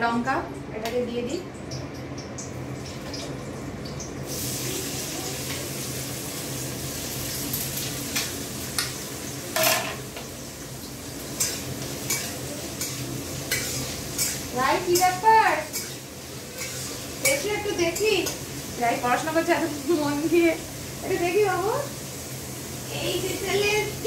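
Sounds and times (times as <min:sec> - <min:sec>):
vegetables sizzling in hot oil: 0:01.7 - 0:24.0.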